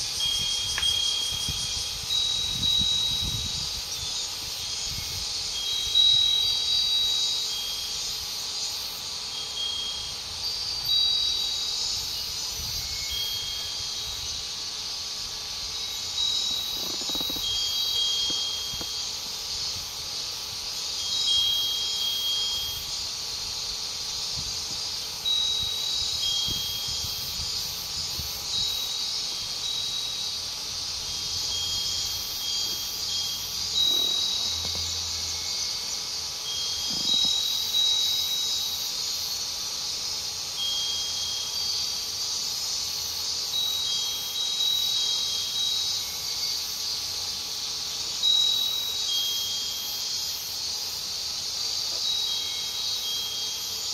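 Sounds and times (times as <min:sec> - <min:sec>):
high-pitched insect chorus: 0:00.0 - 0:53.9
wind chime tinkling: 0:00.0 - 0:53.9.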